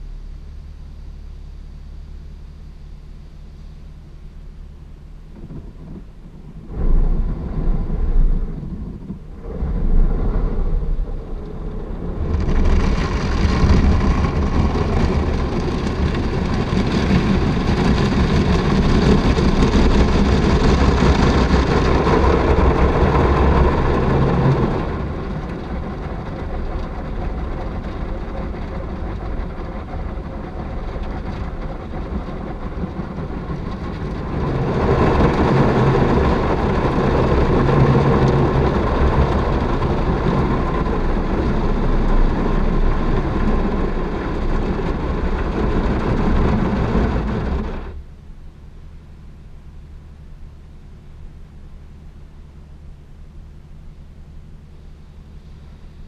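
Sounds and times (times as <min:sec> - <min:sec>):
low rumbling thuds: 0:03.0 - 0:48.2.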